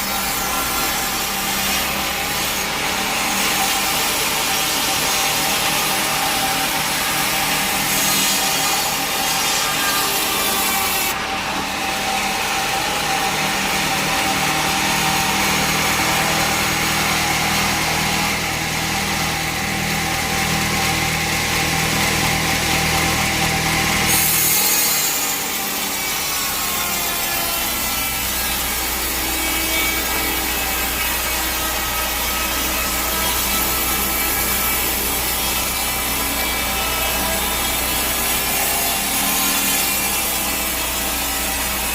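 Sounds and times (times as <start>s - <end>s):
bandsaw cutting log: 0.0s - 41.9s.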